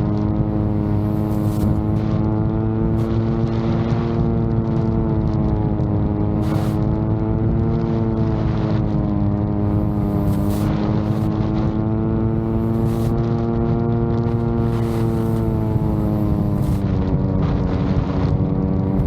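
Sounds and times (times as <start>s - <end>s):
drone propellers humming: 0.0s - 19.0s
wind buffeting microphone: 0.0s - 19.0s.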